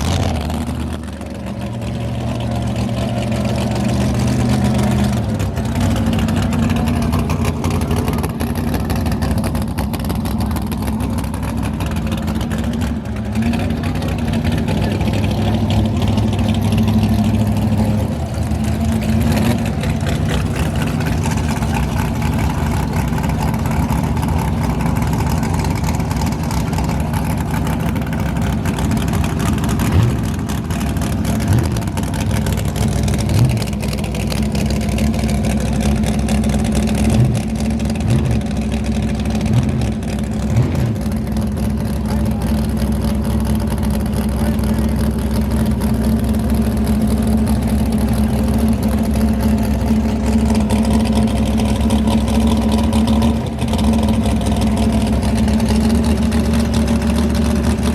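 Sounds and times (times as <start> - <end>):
vehicle engine droning: 0.0 - 57.9.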